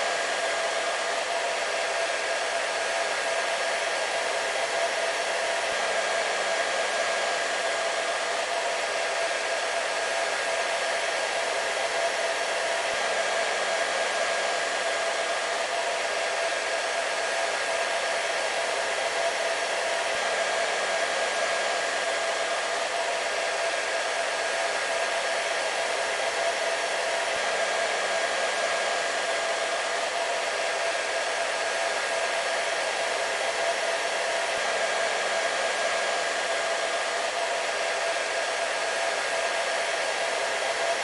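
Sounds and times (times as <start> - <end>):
hair dryer running: 0.0 - 41.0.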